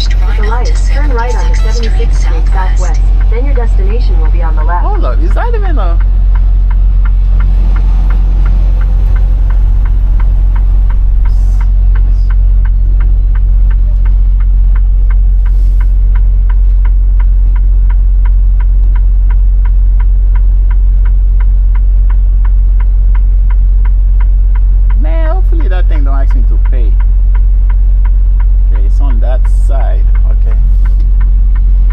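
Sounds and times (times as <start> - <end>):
diesel truck engine drone: 0.0 - 31.9
turn signal ticking: 0.0 - 31.9.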